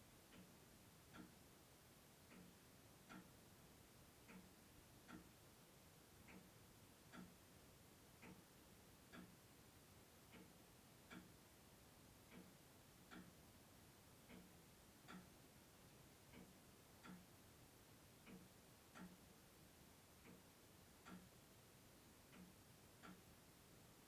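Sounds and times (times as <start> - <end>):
clock ticking: 0.2 - 24.0.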